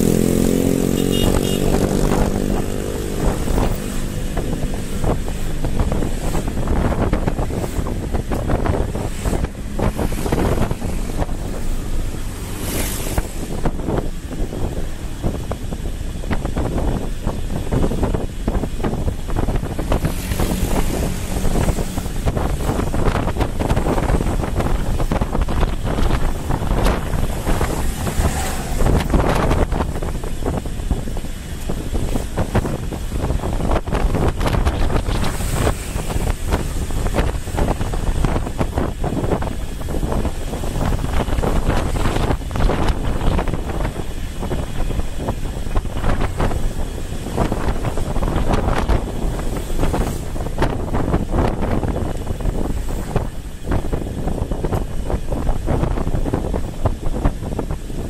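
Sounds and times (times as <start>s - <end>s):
road and traffic noise: 0.0s - 58.0s
wind buffeting microphone: 0.0s - 58.0s.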